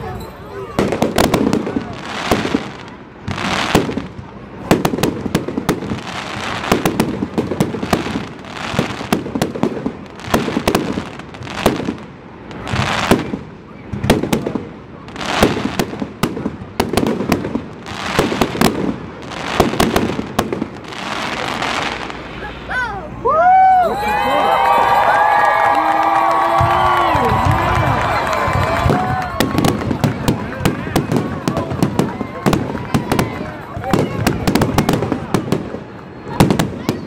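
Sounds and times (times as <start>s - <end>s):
fireworks bursting with crackling: 0.6s - 22.9s, 24.5s - 37.0s.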